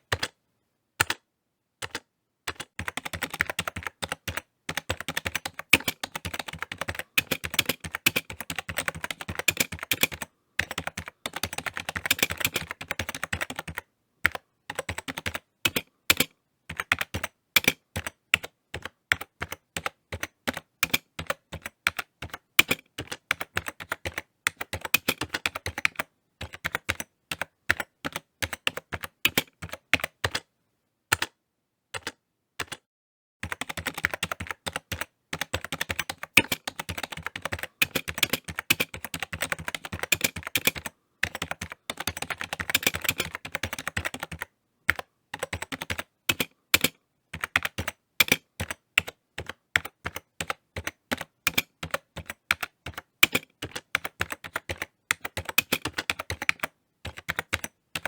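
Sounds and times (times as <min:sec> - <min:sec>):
typing on computer keyboard: 0:00.1 - 0:00.4, 0:01.0 - 0:01.2, 0:01.8 - 0:30.5, 0:31.1 - 0:32.8, 0:33.4 - 0:58.0.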